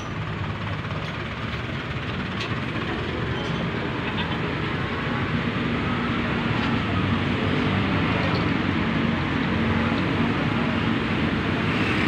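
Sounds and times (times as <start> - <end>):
vehicle traffic rumble: 0.0 - 12.0.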